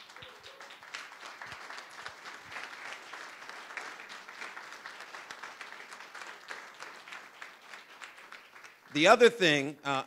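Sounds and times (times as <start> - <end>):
crowd applauding: 0.0 - 9.7.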